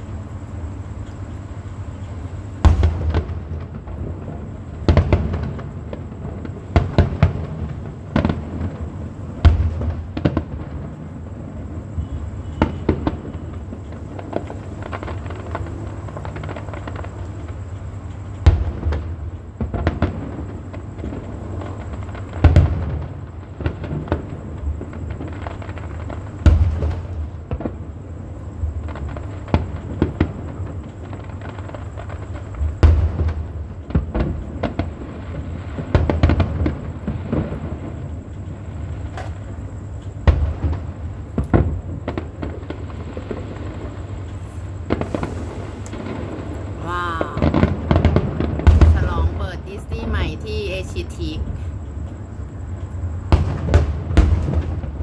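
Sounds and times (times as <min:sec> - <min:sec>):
fireworks bangs and booms: 0:00.0 - 0:55.0.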